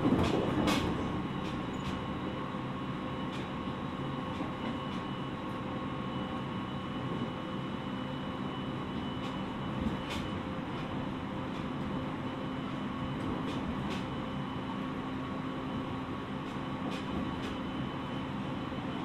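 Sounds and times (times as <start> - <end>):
train running rumble: 0.0 - 19.0.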